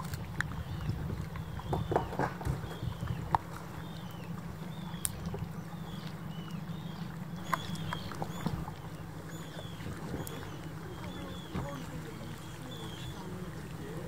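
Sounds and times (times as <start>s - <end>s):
boat engine idling: 0.0s - 14.0s
seabirds crying: 0.0s - 14.0s.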